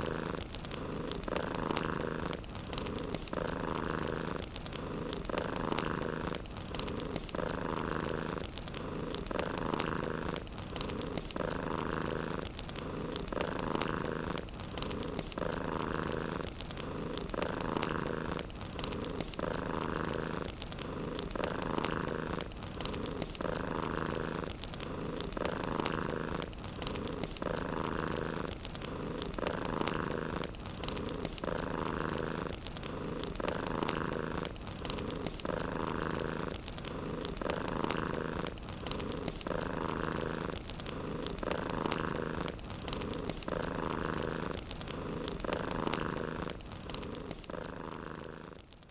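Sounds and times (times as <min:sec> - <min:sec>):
cat purring: 0:00.0 - 0:48.9
wood fire crackling: 0:00.0 - 0:48.9.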